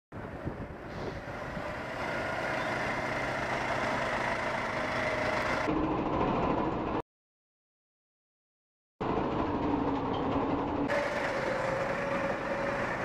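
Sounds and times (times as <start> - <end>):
truck diesel engine running: 0.5 - 7.0, 9.0 - 13.0.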